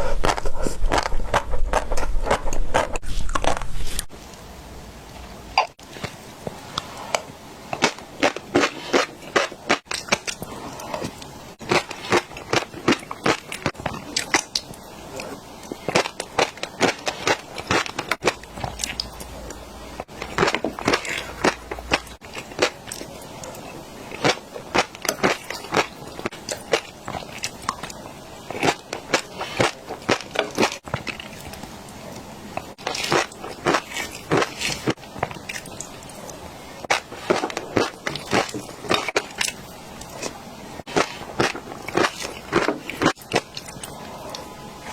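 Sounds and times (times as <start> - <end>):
crunchy chewing: 5.6 - 44.9.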